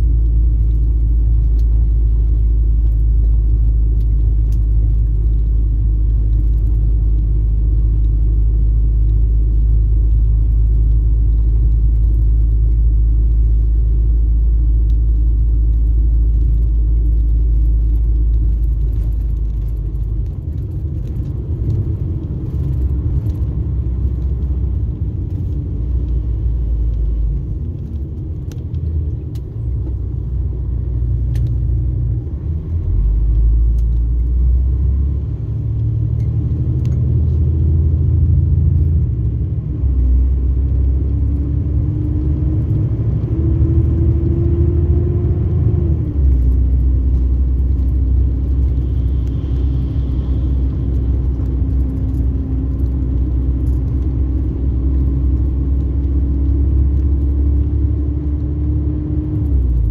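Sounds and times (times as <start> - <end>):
diesel engine deep rumble: 0.0 - 59.9.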